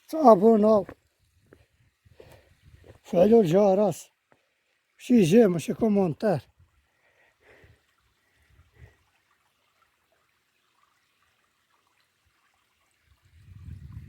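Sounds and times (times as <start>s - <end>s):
faint stream trickling: 0.0s - 14.0s.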